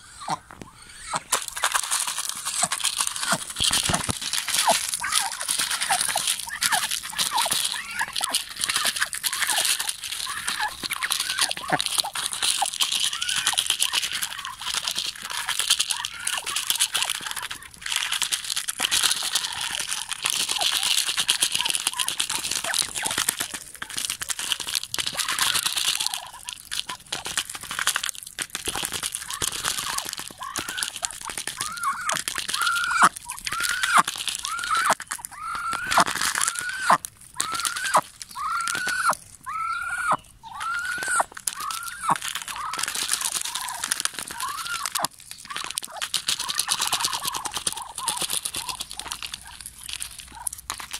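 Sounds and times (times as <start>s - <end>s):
crunching: 0.1s - 50.9s
duck bills rattling corn kernels: 0.1s - 50.9s.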